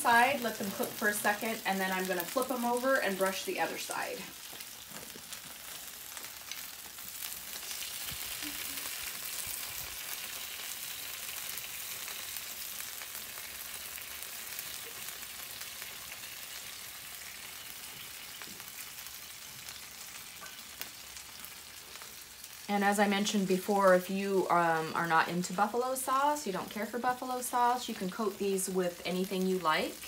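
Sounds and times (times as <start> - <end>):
chicken sizzling on sheet pan: 0.0 - 30.0.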